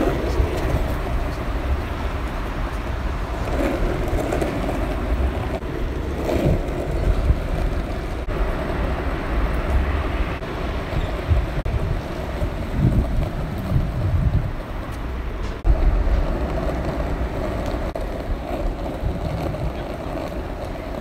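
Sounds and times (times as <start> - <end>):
skateboard wheels rolling on asphalt: 0.0 - 21.0.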